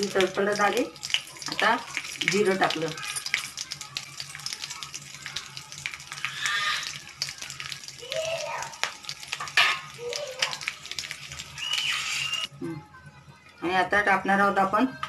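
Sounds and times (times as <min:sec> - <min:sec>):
spices popping in hot oil: 0:00.0 - 0:12.5.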